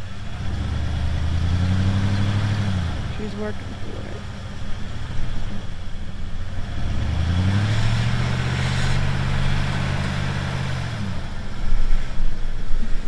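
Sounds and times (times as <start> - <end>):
loud rough noise: 0.0 - 12.6
pickup truck engine revving: 0.0 - 13.0.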